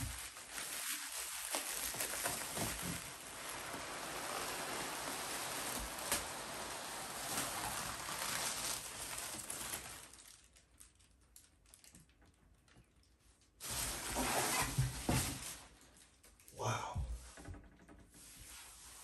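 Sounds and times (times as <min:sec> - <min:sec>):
plastic packing rustling: 0:00.0 - 0:16.4.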